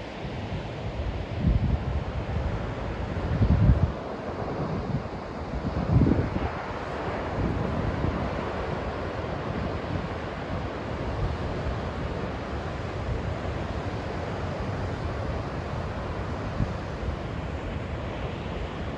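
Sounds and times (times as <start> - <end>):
heavy surf breaking on beach: 0.0 - 18.9
wind buffeting microphone: 1.0 - 18.9.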